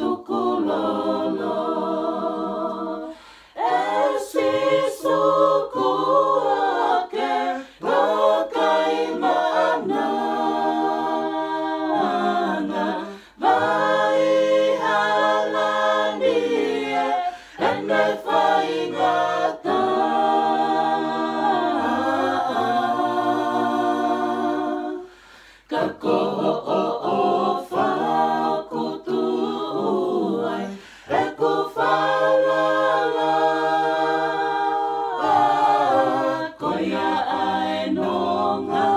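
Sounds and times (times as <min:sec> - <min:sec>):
group singing gospel a cappella: 0:00.0 - 0:38.9.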